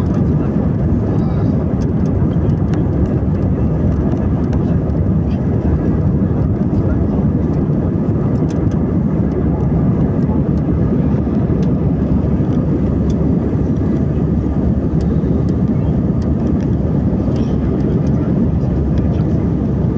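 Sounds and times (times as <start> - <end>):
airliner engines at takeoff power: 0.0 - 19.9.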